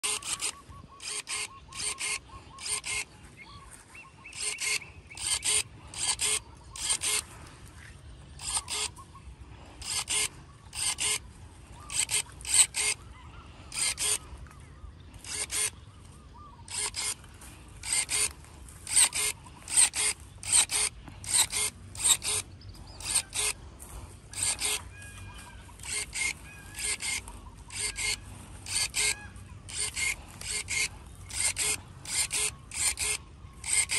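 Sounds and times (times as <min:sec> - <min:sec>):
electric pruning shears snipping: 0:00.0 - 0:03.1, 0:04.3 - 0:07.3, 0:08.4 - 0:09.0, 0:09.7 - 0:11.2, 0:11.9 - 0:13.0, 0:13.7 - 0:14.3, 0:15.2 - 0:33.9.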